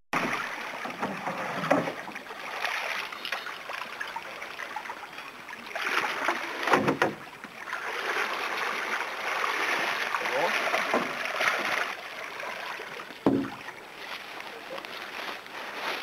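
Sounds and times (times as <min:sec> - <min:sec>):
river water rushing over stones: 0:00.2 - 0:16.0
splashes from wading: 0:00.2 - 0:16.0.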